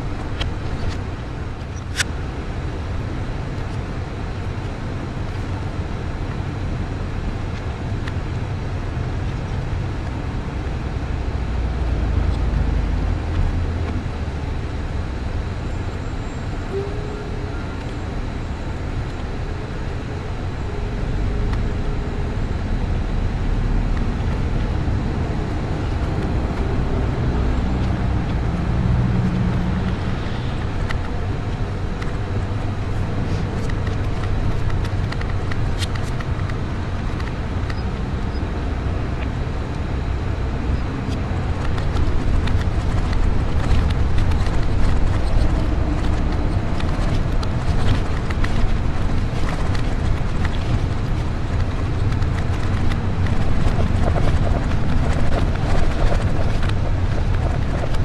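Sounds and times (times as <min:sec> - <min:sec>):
bus engine and tyres rumbling: 0:00.0 - 0:58.0.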